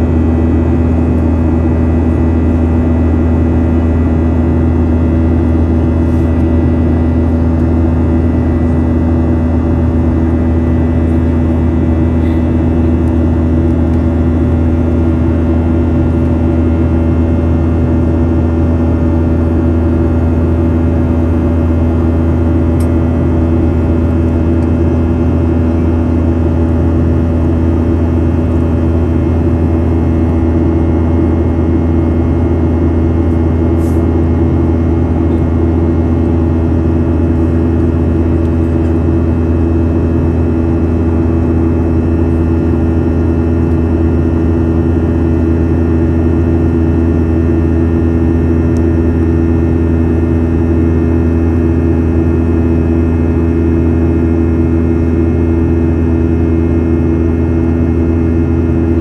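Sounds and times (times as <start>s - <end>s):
jet engine cabin drone: 0.0s - 59.0s.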